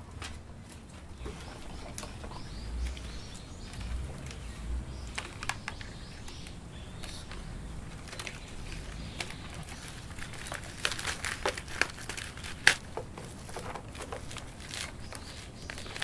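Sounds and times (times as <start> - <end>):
birds chirping: 0.0 - 16.0
dry roots rustling and snapping: 0.0 - 16.0.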